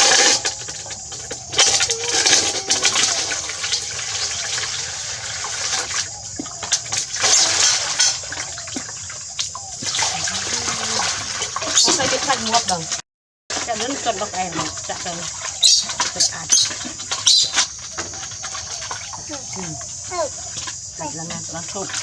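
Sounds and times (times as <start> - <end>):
bath water running and splashing: 0.0 - 22.0.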